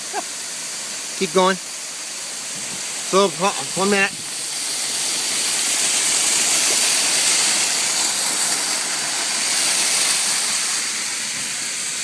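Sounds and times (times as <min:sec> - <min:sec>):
waterfall splashing on vehicle: 0:00.0 - 0:12.0.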